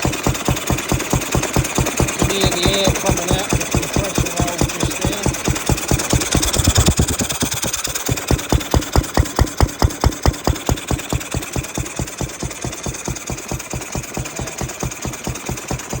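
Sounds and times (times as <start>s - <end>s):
stationary petrol engine running: 0.0s - 16.0s.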